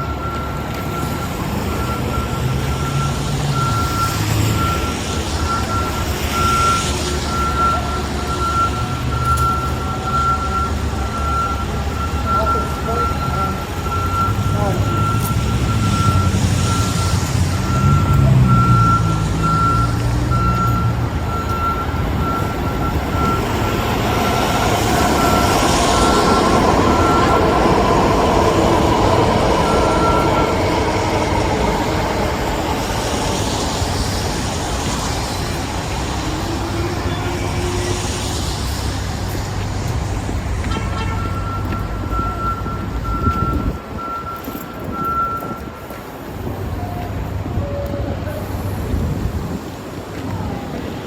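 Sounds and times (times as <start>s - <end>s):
truck reversing alarm beeping: 0.0s - 48.4s
low engine rumble: 0.0s - 51.0s
passing traffic: 0.0s - 51.0s.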